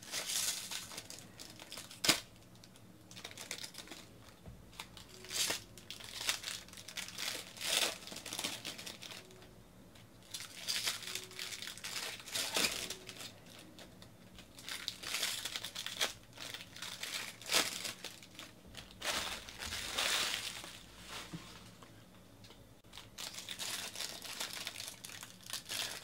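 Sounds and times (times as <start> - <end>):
foil wrappers crinkling and tearing: 0.0 - 9.5, 10.2 - 21.4, 22.8 - 26.0.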